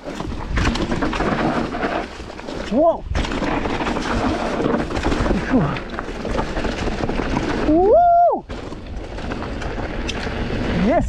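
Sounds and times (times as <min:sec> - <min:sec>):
bike rolling over rough trail: 0:00.0 - 0:11.0.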